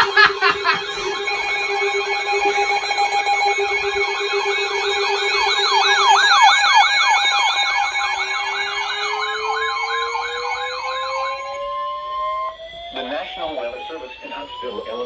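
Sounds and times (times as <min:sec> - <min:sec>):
low siren winding up: 0:00.0 - 0:15.0
sirens yelping: 0:00.0 - 0:15.0
steady siren alert tones: 0:00.0 - 0:15.0.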